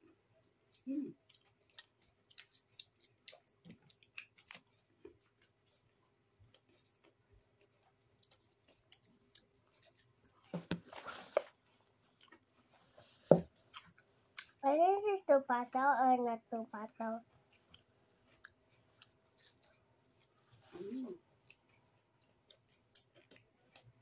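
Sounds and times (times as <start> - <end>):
person chewing food: 0.1 - 14.6, 17.2 - 24.0.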